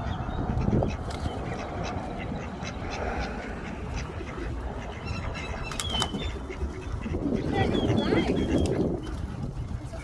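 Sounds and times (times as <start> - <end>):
ducks quacking: 0.0 - 10.0.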